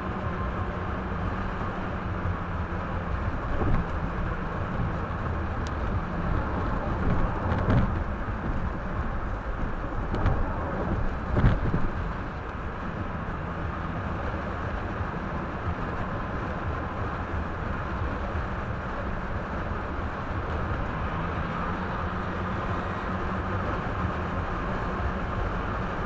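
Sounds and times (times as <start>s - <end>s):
car engine hum: 0.0s - 26.0s
road and tyre noise: 0.0s - 26.0s.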